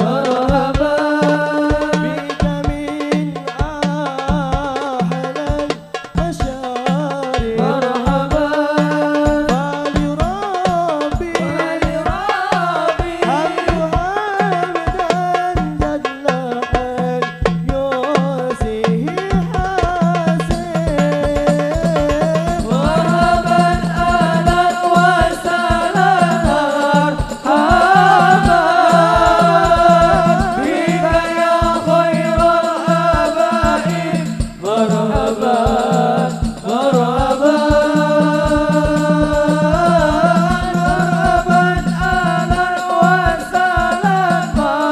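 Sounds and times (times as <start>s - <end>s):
voices singing melodic lines: 0.0s - 4.4s, 7.4s - 14.7s, 20.1s - 44.9s
frame drums beating: 0.0s - 44.9s.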